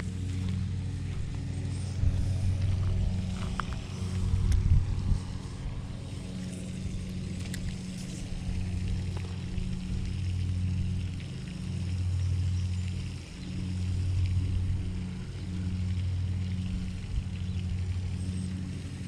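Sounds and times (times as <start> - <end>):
motor humming steadily: 0.0 - 19.0.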